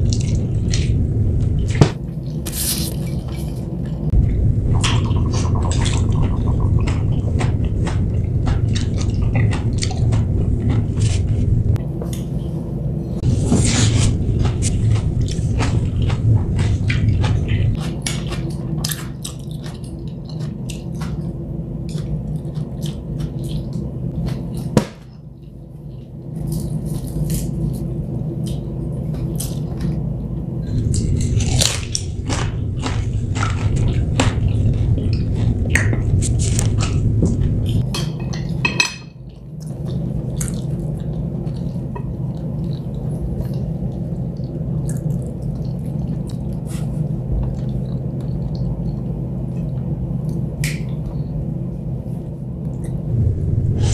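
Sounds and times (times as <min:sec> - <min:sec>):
low hum: 0:00.0 - 0:53.9
chewing noodles: 0:01.6 - 0:11.4, 0:13.4 - 0:24.7, 0:25.3 - 0:37.8, 0:39.2 - 0:51.4.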